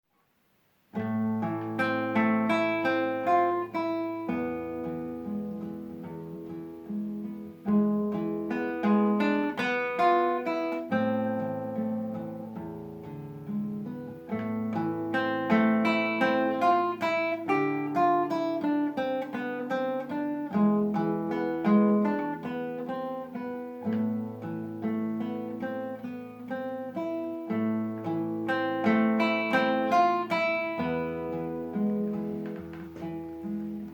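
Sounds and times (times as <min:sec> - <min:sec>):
acoustic guitar arpeggios: 0:00.9 - 0:33.9.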